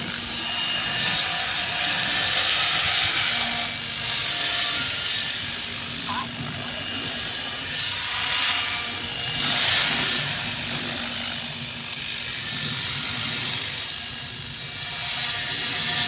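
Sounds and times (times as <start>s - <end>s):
rc helicopter rotor whining: 0.0s - 16.0s.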